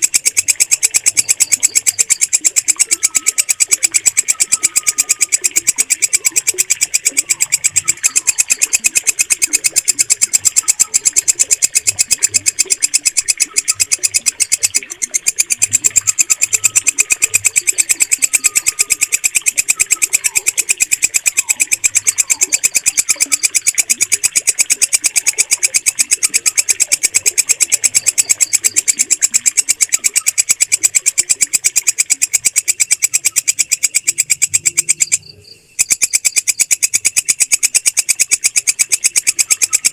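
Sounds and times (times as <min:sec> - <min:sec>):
katydid stridulating: 0:00.0 - 0:39.9.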